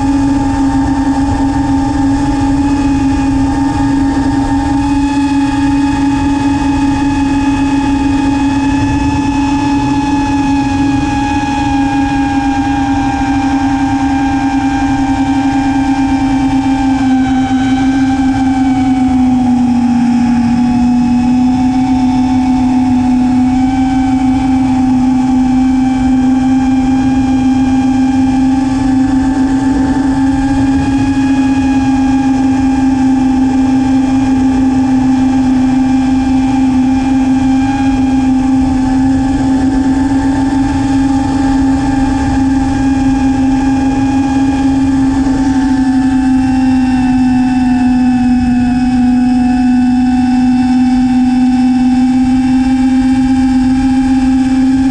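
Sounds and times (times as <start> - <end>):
quadcopter motors whining: 0.0 - 54.9
wind rumbling on microphone: 0.0 - 54.9.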